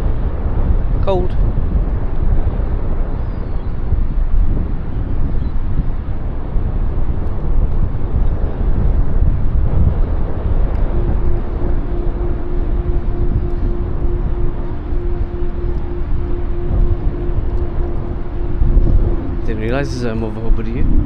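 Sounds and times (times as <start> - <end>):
steady machine hum: 0.0 - 21.0
wind buffeting microphone: 0.0 - 21.0.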